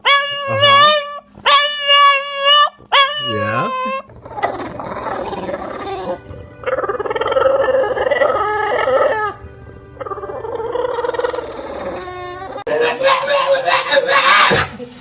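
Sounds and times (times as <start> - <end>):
dog warbling vocal sounds: 0.0 - 9.4, 10.0 - 14.8.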